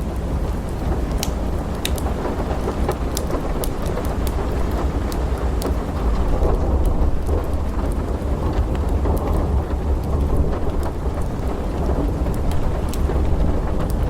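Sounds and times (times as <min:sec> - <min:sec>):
steady rain: 0:00.0 - 0:14.0
thunder rumbling: 0:00.0 - 0:14.0
wood fire crackling: 0:00.0 - 0:14.0.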